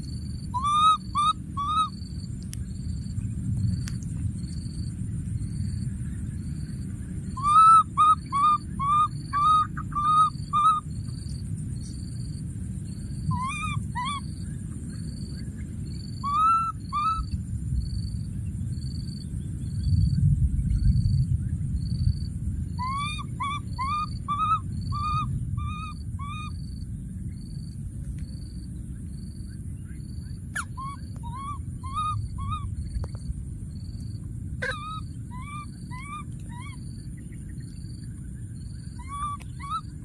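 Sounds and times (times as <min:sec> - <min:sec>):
high insect-like hiss: 0:00.0 - 0:40.0.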